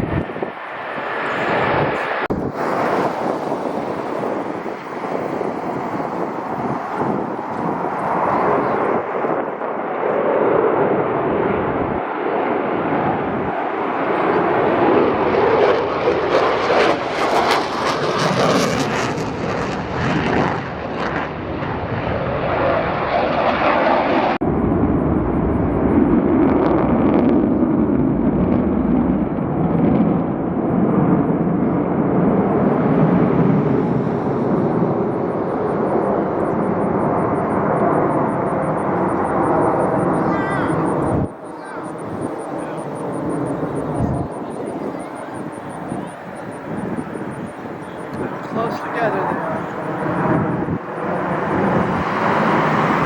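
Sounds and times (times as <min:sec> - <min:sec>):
jet aircraft roaring past: 0:00.0 - 0:53.0.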